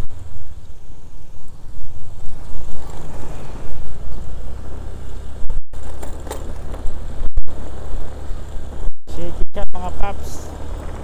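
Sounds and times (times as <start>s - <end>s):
scooter engine hum: 0.0s - 11.0s
wind buffeting microphone: 0.0s - 11.0s.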